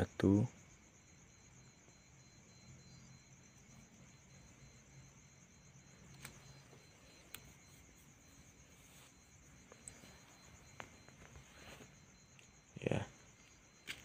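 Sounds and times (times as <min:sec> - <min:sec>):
faint crickets chirping: 0:00.0 - 0:14.0.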